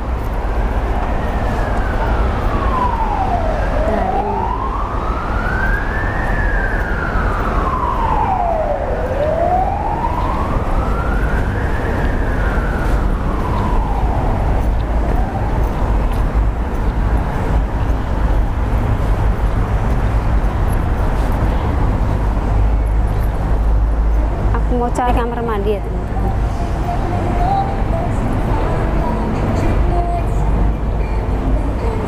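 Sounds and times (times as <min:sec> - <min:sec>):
emergency siren wailing: 0:00.4 - 0:32.0.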